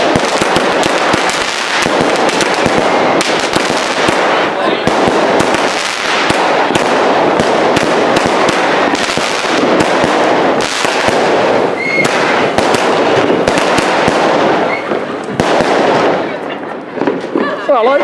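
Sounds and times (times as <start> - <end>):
firework barrage with crackling: 0.0 - 18.0.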